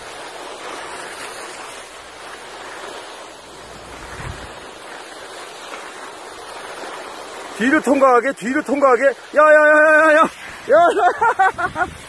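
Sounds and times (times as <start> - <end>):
wind rushing on microphone: 0.0 - 8.2, 8.8 - 12.0
skis scraping over packed snow: 0.0 - 12.0.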